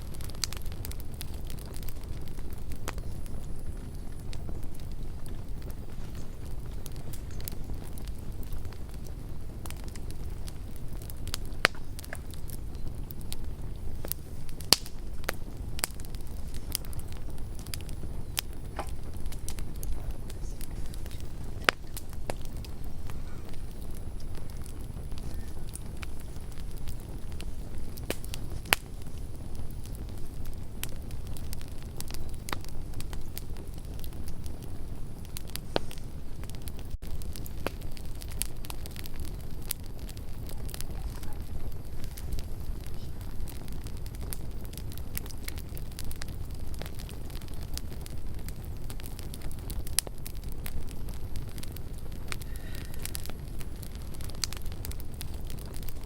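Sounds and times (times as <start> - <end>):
campfire crackles and pops: 0.0 - 56.0
low fire rumble: 0.0 - 56.0.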